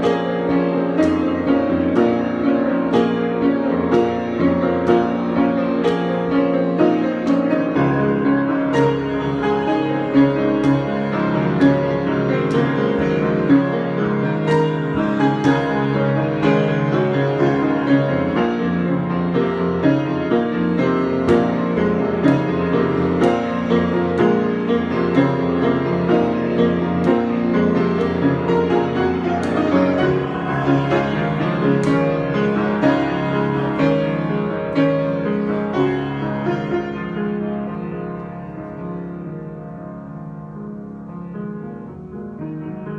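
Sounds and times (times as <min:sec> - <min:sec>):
solo piano: 0:00.0 - 0:42.9.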